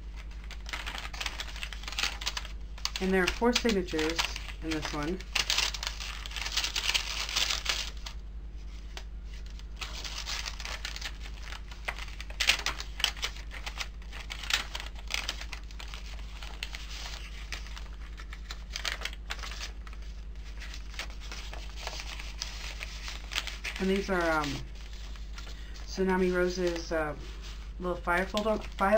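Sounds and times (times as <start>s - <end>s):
paper pages rustling: 0.0s - 28.9s
steady low hum: 0.0s - 28.9s.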